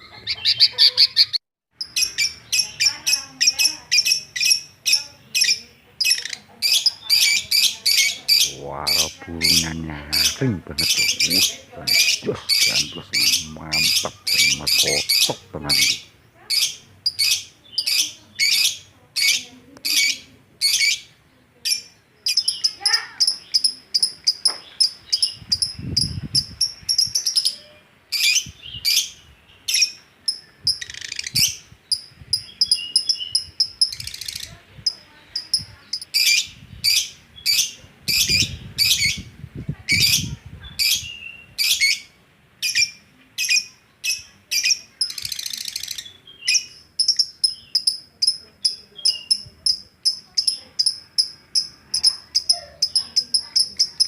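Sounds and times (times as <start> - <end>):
high steady bird trill: 0.0 - 39.3, 39.9 - 54.0
songbirds chirping: 0.0 - 54.0.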